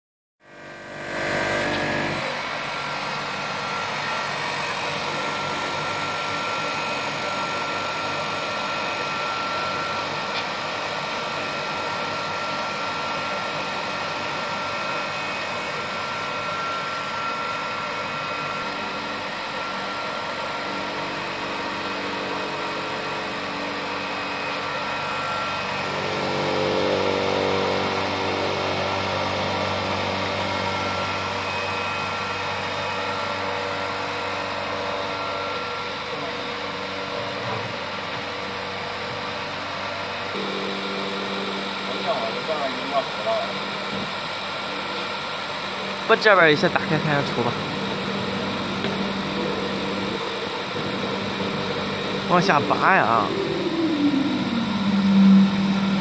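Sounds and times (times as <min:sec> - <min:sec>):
mill motor humming with high whine: 0:00.5 - 0:56.0.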